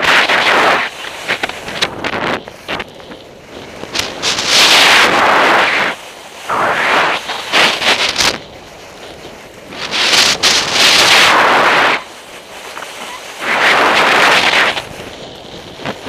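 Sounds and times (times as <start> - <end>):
skis scraping on snow: 0.0 - 16.0
wind noise on microphone: 0.0 - 16.0.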